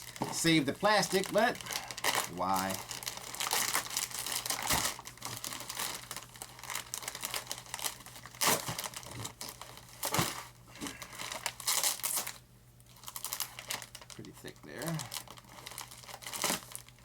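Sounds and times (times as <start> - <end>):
plastic wrap crinkling and tearing: 0.0 - 17.0.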